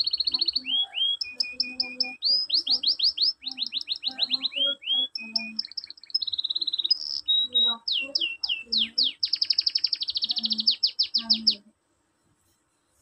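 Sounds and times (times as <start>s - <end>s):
canary singing: 0.0s - 11.8s.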